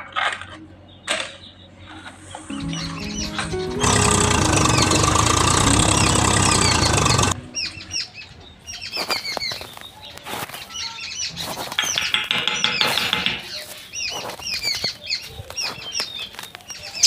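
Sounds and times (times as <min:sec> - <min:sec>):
small birds chirping: 0:00.8 - 0:17.0.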